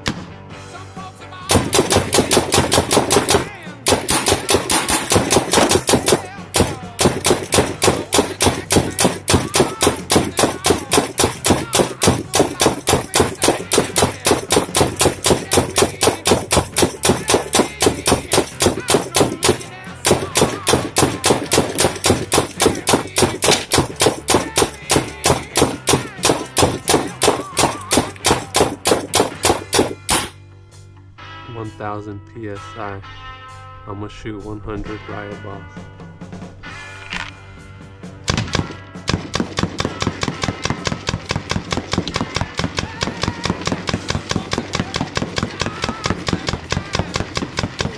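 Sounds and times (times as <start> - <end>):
paintball gun firing rapidly: 1.5 - 30.4, 38.3 - 47.9.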